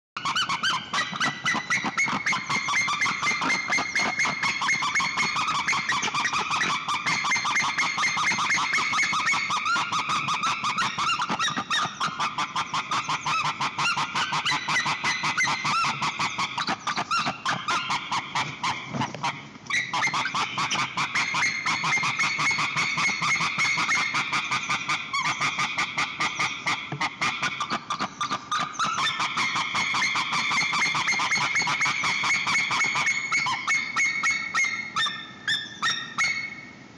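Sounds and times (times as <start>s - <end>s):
eagles calling: 0.2s - 36.8s.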